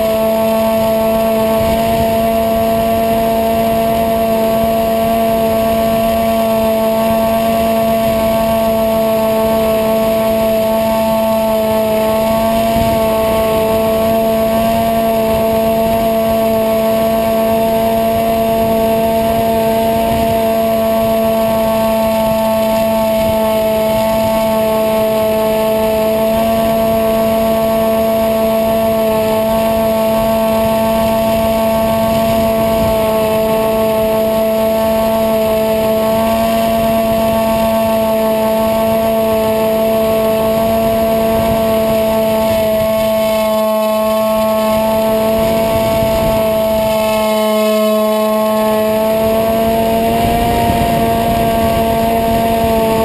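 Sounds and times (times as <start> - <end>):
electric motor and propeller whining: 0.0 - 53.0
wind noise on microphone: 0.0 - 53.0.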